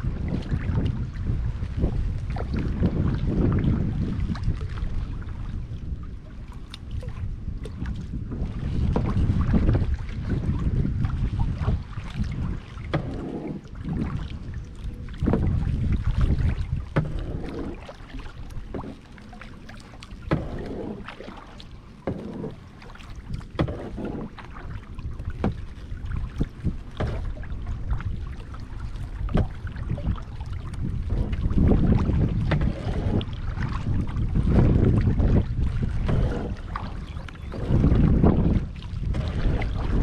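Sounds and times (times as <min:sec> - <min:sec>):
kayak paddle splashing: 0:00.0 - 0:40.0
wind on microphone: 0:00.0 - 0:40.0.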